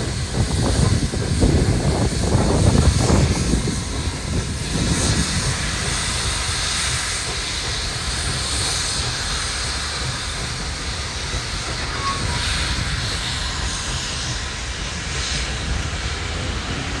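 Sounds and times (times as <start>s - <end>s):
steam locomotive working: 0.0s - 17.0s
train cars rumbling on rails: 0.0s - 17.0s.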